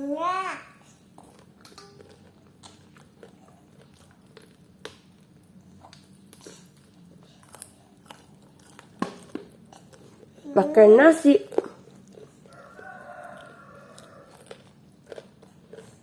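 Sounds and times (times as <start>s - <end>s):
child chewing and mouth smacks: 0.7s - 16.0s.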